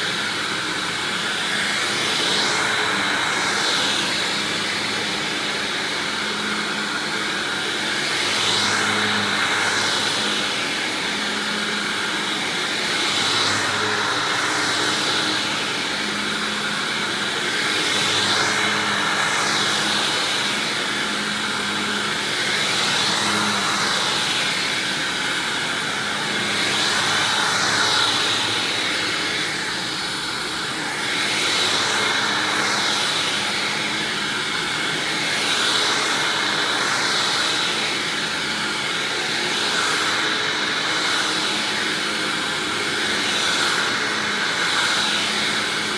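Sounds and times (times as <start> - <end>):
upright vacuum cleaner running: 0.0 - 45.9.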